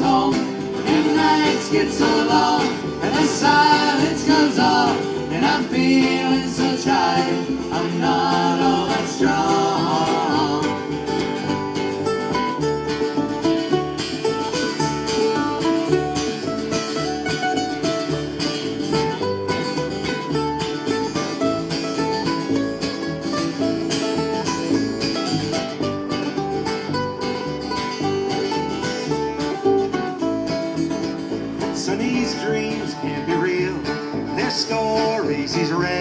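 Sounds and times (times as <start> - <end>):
acoustic folk band instrumental: 0.0 - 36.0.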